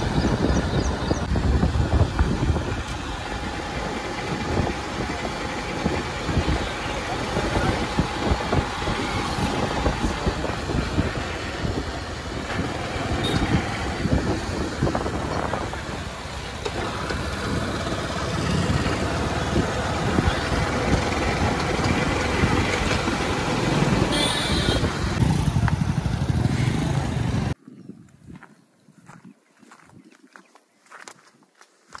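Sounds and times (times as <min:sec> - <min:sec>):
motorcycle engine running: 0:00.0 - 0:27.6
road noise: 0:00.0 - 0:27.6.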